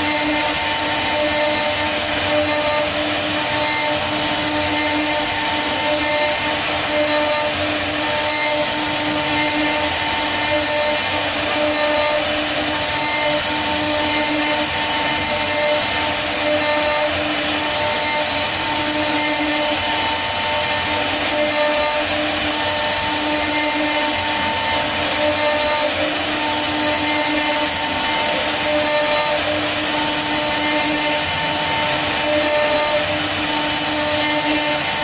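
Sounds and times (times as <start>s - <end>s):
router spindle milling wood: 0.0s - 35.0s.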